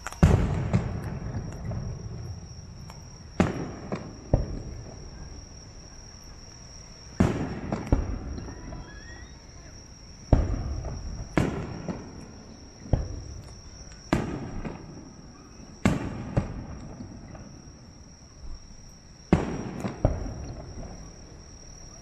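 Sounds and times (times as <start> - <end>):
firework shells booming: 0.0 - 5.7, 7.1 - 17.8, 19.3 - 22.0.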